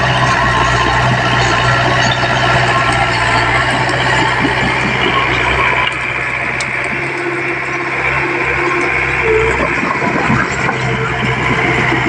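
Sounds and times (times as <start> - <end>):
bulldozer diesel engine under load: 0.0 - 12.0.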